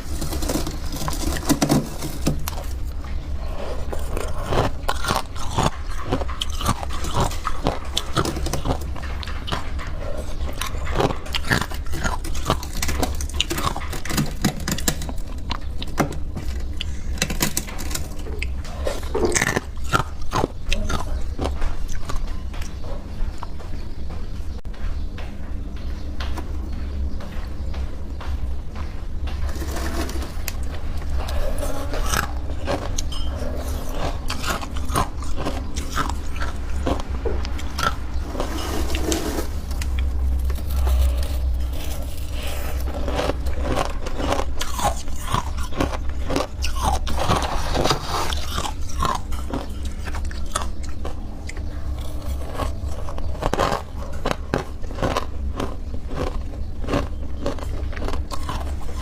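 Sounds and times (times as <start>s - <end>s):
crunchy chewing: 0.0s - 59.0s
steady low hum: 0.0s - 59.0s.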